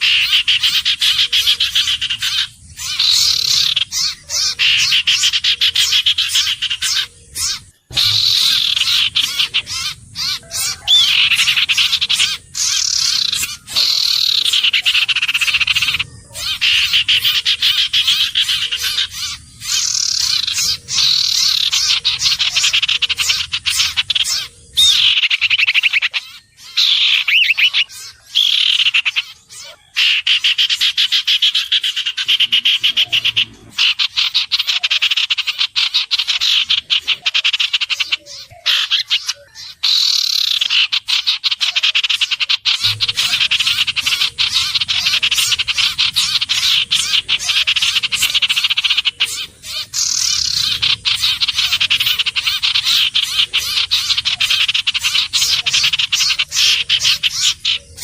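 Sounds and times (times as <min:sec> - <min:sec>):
bird trills and whistles: 0:00.0 - 0:58.0.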